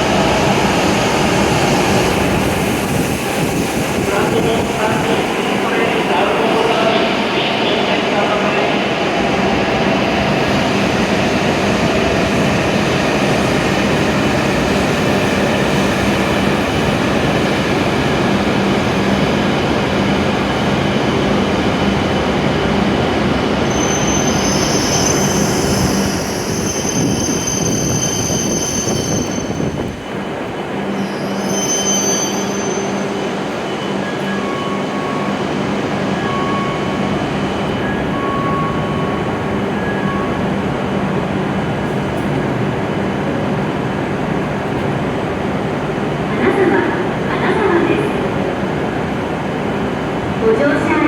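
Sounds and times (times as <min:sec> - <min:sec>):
train rumbling: 0:00.0 - 0:31.6, 0:32.3 - 0:51.0.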